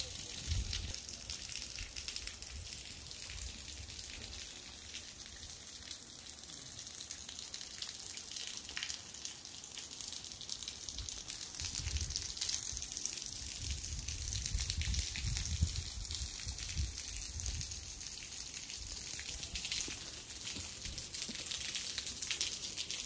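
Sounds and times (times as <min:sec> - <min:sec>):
light rain and dripping water: 0:00.0 - 0:23.0.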